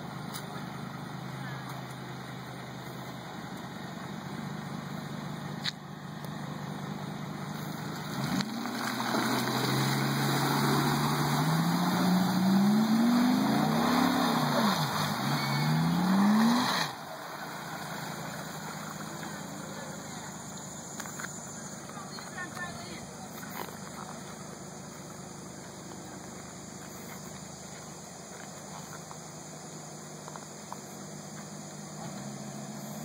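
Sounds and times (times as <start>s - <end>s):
diesel engine revving: 0.0s - 33.0s.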